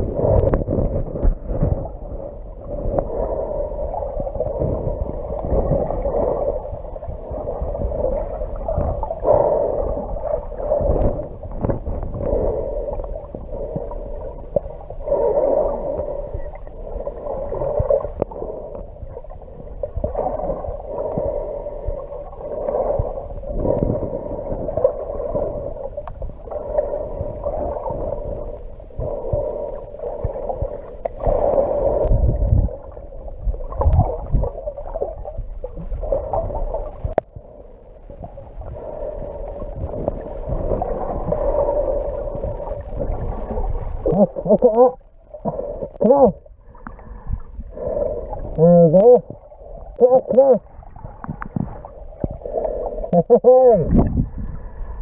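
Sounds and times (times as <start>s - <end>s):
low rumble: 0.0s - 53.2s, 53.8s - 55.0s
muffled underwater water noise: 0.0s - 55.0s.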